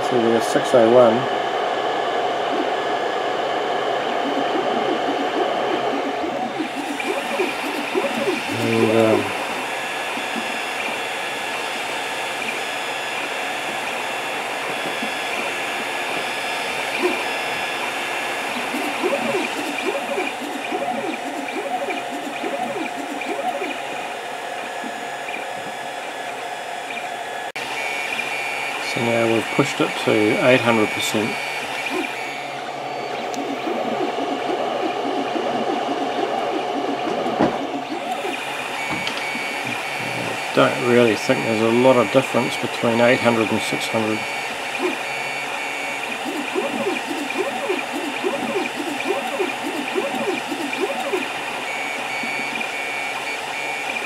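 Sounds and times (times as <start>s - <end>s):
printer fan whirring: 0.0s - 54.0s
stepper motors whining: 0.0s - 54.0s.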